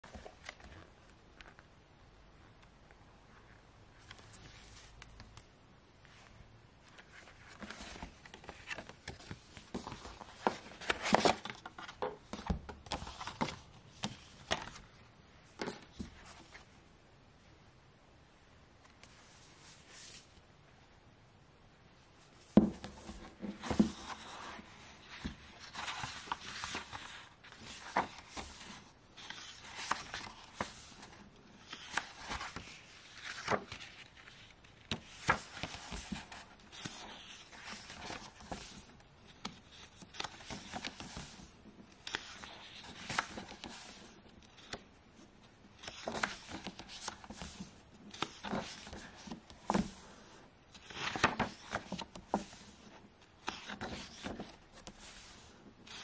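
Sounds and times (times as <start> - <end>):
pages turning: 0.0 - 1.7, 3.5 - 16.7, 18.9 - 20.4, 22.3 - 56.0.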